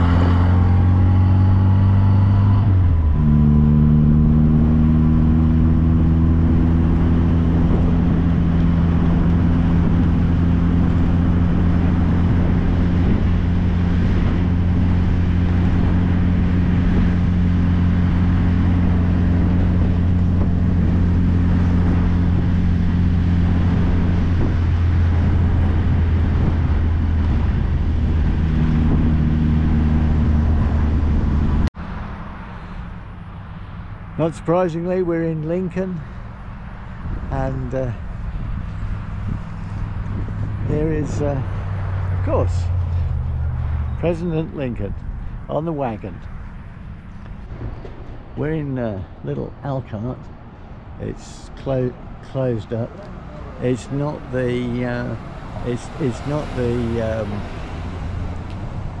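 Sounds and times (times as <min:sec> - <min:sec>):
car engine cruising: 0:00.0 - 0:59.0
wind and road noise: 0:00.0 - 0:59.0.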